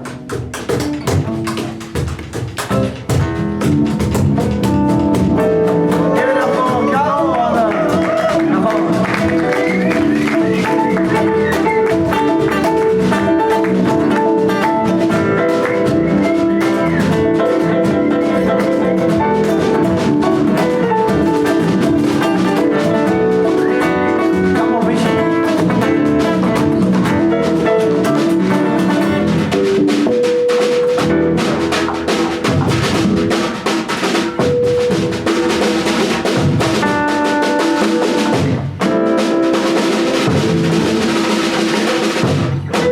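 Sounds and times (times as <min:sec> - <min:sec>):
drum kit: 0:00.0 - 0:42.9
guitar: 0:00.0 - 0:42.9
live band playing: 0:00.0 - 0:42.9.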